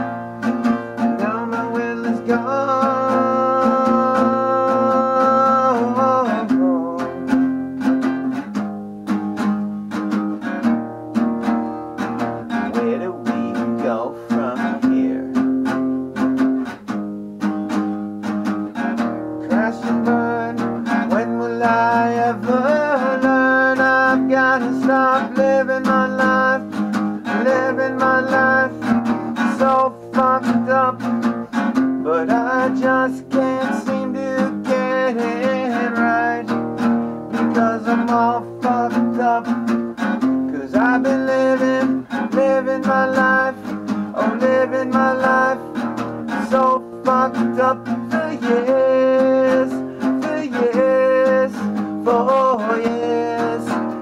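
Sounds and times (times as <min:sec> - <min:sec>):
man singing: 0:00.0 - 0:08.5, 0:12.0 - 0:16.4, 0:18.8 - 0:54.0
acoustic guitar strumming: 0:00.0 - 0:54.0.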